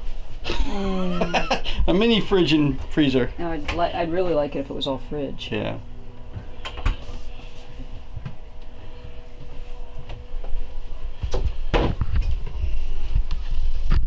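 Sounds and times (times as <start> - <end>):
faint steady hum: 0.0 - 14.0
low rumble: 2.6 - 14.0.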